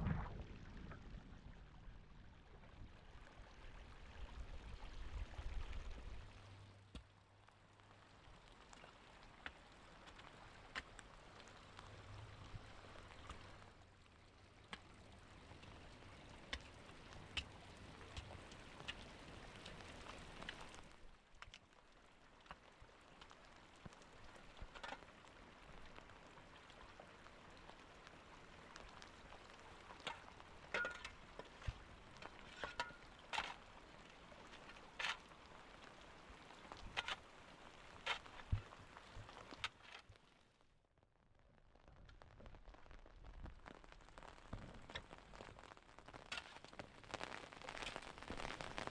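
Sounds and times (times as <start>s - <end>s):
steady rain falling: 0.0s - 40.8s, 41.5s - 48.9s.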